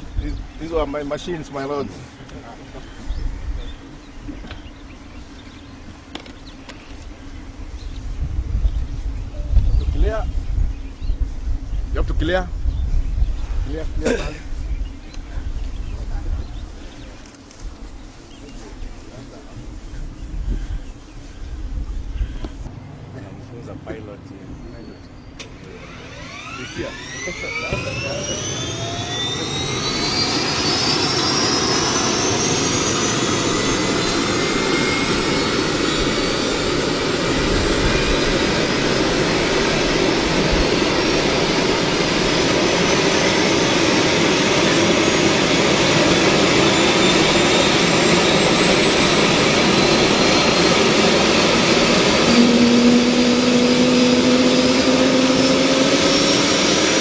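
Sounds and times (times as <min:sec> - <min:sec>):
helicopter turbine whine: 0:00.0 - 0:57.0
low hum: 0:00.0 - 0:57.0.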